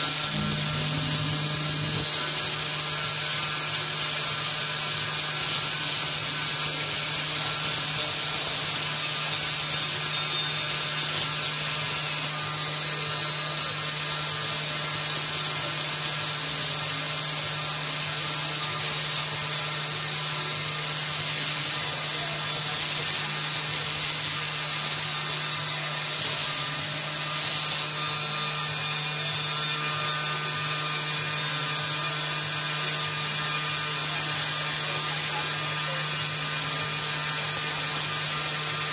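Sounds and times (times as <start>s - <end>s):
machine spindle high-pitched whine: 0.0s - 38.9s.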